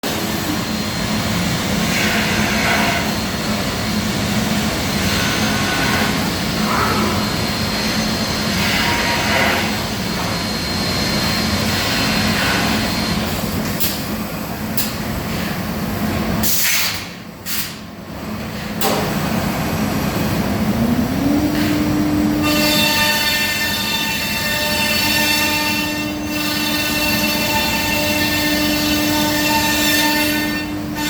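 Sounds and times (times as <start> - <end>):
cnc machine milling: 0.1 - 16.2, 18.8 - 31.0.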